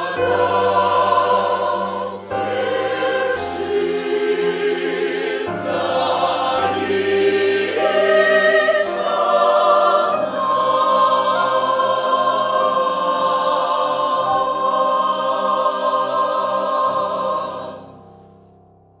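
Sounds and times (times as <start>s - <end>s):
mixed choir singing: 0.0s - 18.2s.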